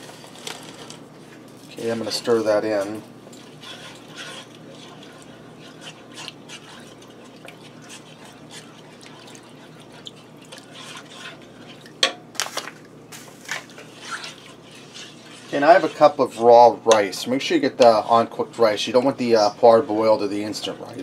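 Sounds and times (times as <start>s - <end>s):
wooden spoon stirring soup: 0.1s - 21.0s.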